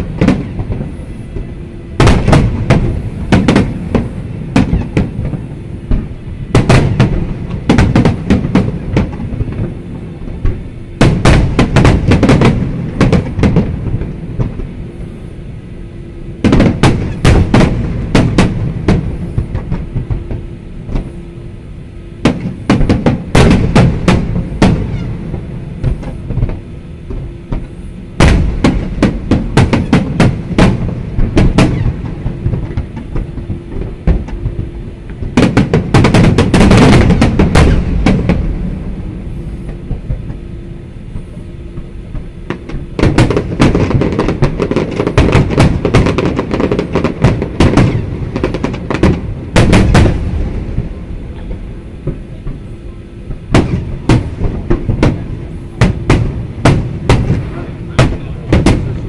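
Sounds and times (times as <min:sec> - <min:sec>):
low rumble: 0:00.0 - 0:44.7, 0:45.5 - 0:59.0
fireworks bursts: 0:00.0 - 0:59.0.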